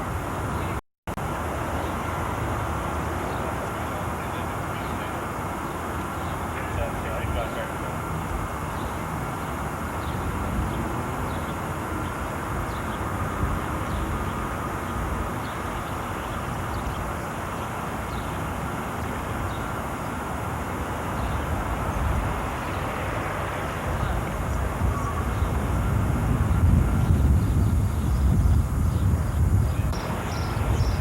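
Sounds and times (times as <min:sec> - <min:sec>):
jet aircraft rumbling: 0:00.0 - 0:15.4, 0:20.4 - 0:31.0.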